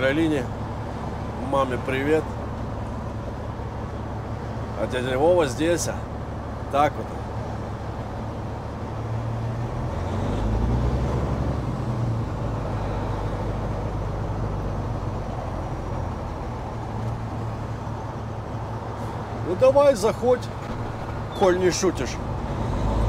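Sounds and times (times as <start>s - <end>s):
diesel truck engine humming: 0.0s - 23.0s.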